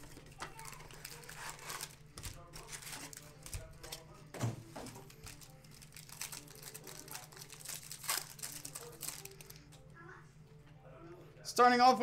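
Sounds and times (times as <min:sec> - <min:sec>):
foil wrappers crinkling and tearing: 0:00.0 - 0:09.7.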